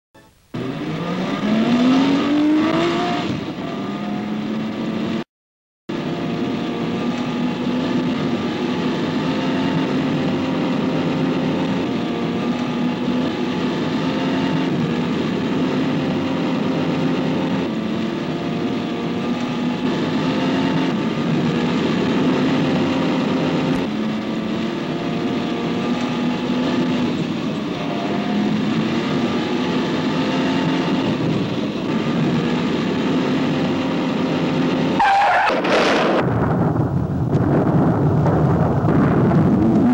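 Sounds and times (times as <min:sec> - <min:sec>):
car engine revving and droning: 0:00.5 - 0:05.2, 0:05.9 - 0:37.4.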